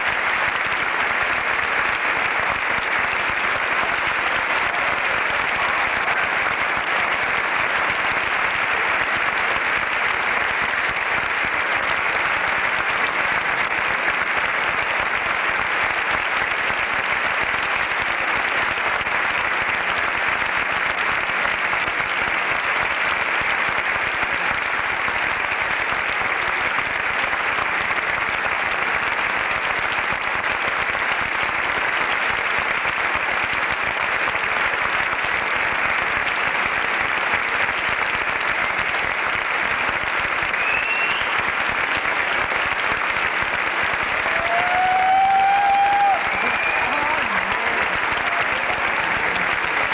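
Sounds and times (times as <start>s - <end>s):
audience applauding: 0.0s - 49.9s.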